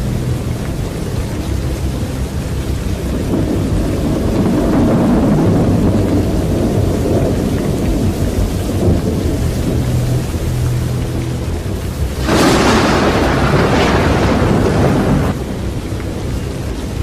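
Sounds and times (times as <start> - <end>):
tornado wind and rain roar: 0.0 - 17.0.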